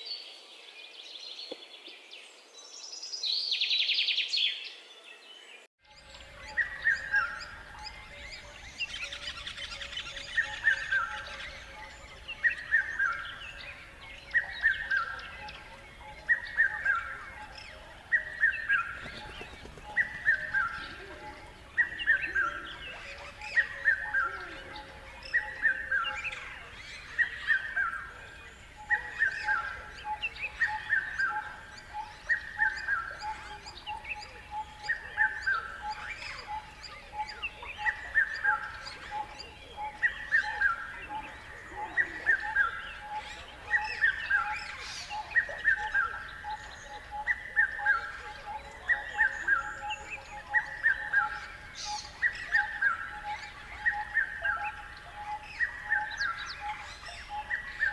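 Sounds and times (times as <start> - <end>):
faint bird chirping: 0.0 - 57.9.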